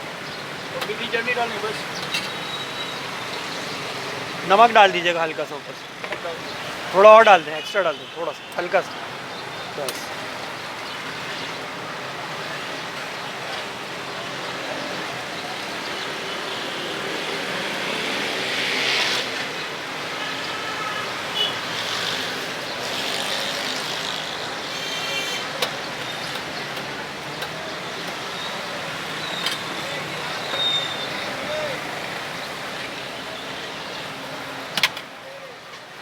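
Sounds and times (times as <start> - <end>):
passing vehicles traffic: 0.0 - 36.0.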